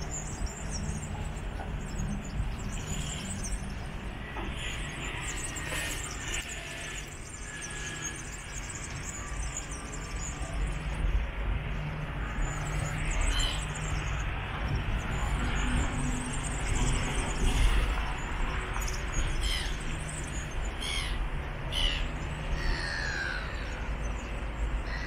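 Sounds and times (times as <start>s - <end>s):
distant road traffic rumble: 0.0s - 25.0s.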